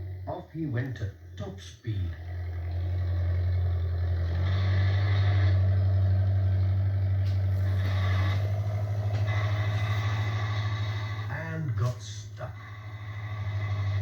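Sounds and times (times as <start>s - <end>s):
tractor engine running hard: 0.0s - 14.0s.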